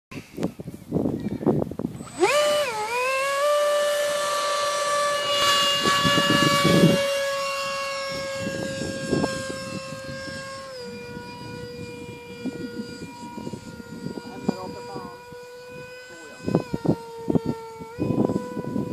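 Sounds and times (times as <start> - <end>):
model jet fan motor whine: 0.2 - 18.9.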